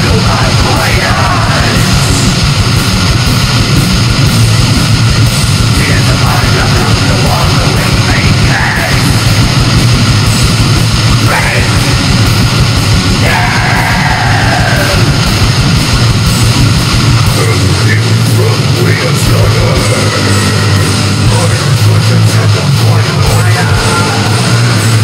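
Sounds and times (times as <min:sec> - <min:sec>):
distorted heavy metal music: 0:00.0 - 0:25.0.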